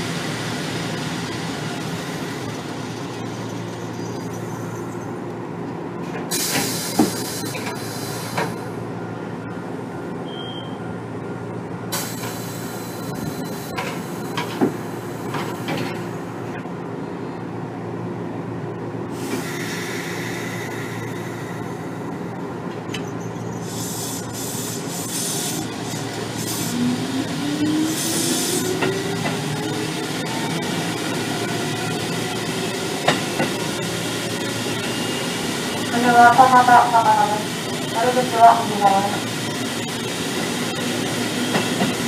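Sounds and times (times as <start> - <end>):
train wheel and motor noise: 0.0 - 42.0.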